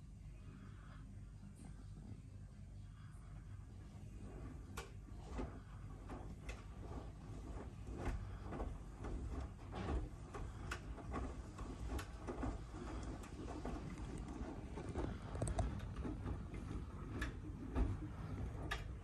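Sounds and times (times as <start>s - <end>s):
washing machine rumbling: 0.0s - 19.0s.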